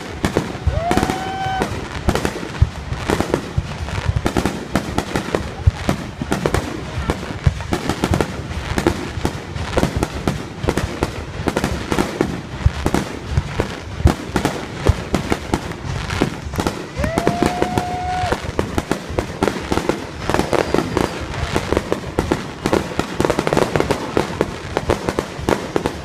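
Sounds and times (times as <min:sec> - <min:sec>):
fireworks popping and banging: 0:00.0 - 0:26.0.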